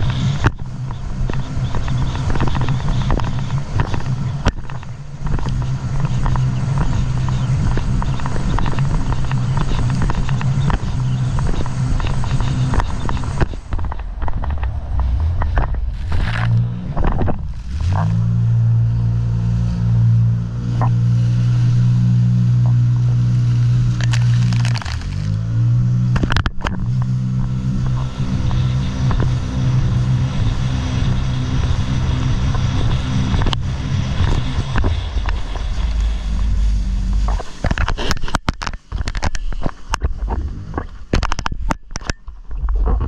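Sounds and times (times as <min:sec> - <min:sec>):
jet ski engine running: 0:00.0 - 0:43.0.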